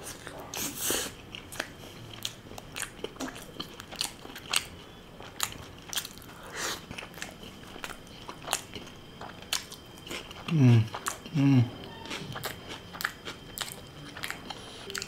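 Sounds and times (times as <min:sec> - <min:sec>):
close chewing: 0:00.0 - 0:15.0.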